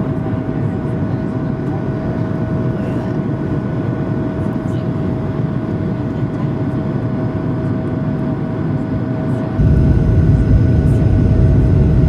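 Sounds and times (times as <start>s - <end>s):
jet engines whine and rumble: 0.0s - 12.0s.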